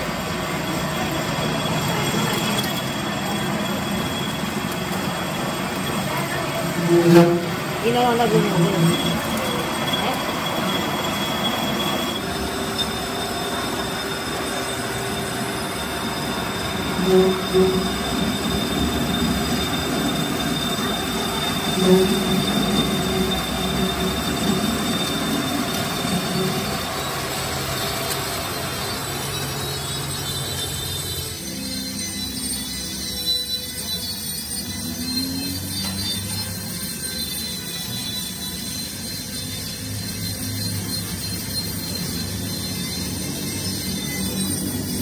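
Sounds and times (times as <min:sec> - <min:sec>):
high-pitched squeal: 0:00.0 - 0:45.0
metal lathe running: 0:00.0 - 0:45.0.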